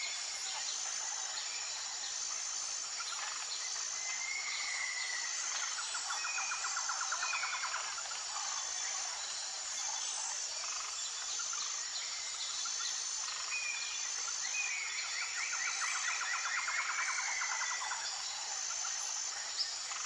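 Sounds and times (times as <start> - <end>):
insects buzzing trills: 0.0 - 20.0.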